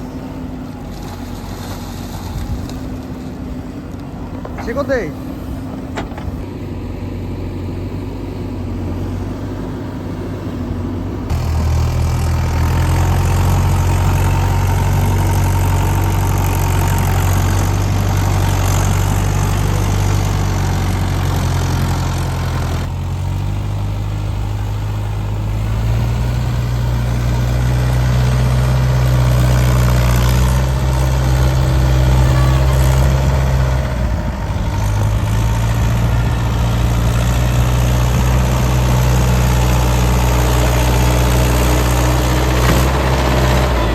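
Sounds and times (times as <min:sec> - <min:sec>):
tractor diesel engine revving: 0:00.0 - 0:43.9.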